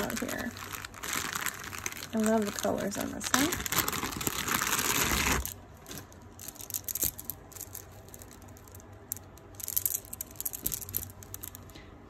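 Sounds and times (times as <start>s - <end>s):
necklace beads clicking: 0.0s - 11.7s.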